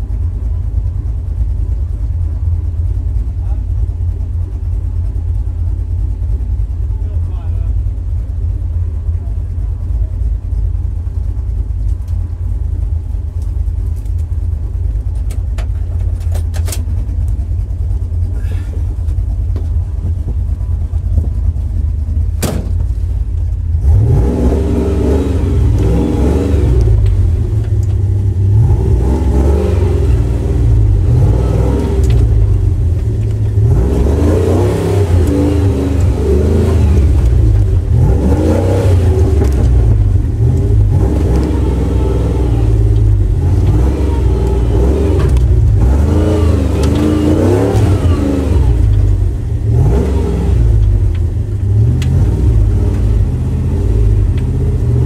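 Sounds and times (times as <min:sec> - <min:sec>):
truck engine idling and revving: 0:00.0 - 0:55.0.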